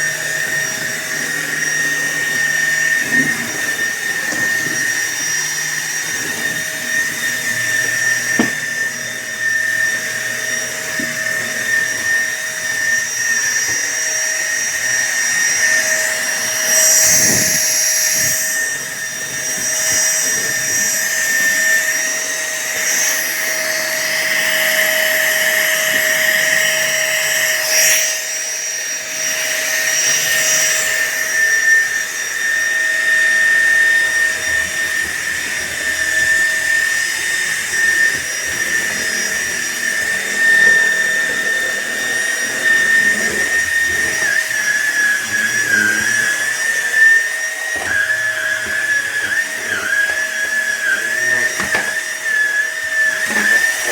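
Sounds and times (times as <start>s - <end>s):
stick vacuum cleaner whining: 0.0s - 53.9s.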